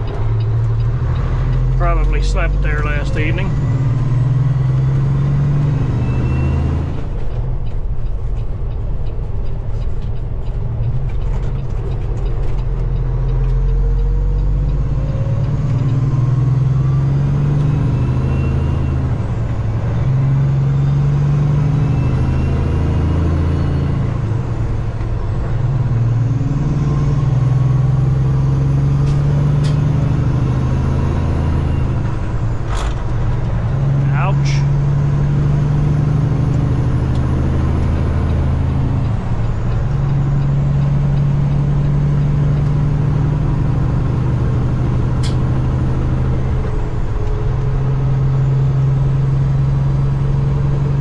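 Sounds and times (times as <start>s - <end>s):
road noise: 0.0s - 51.0s
truck diesel engine running: 0.0s - 51.0s.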